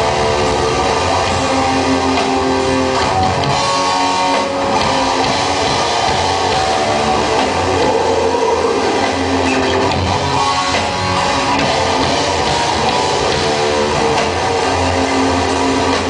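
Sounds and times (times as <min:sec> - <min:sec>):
electric guitar: 0:00.0 - 0:16.0
rock band playing live: 0:00.0 - 0:16.0.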